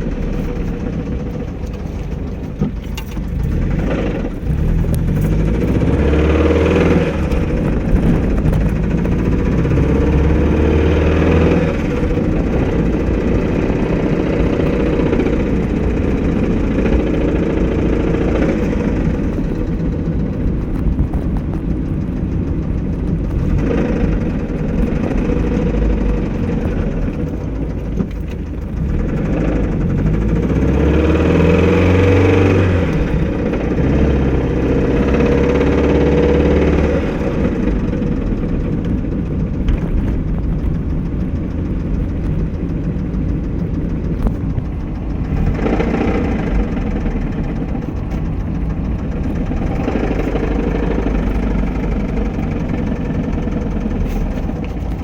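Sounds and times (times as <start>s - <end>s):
car engine knocking: 0.0s - 55.0s.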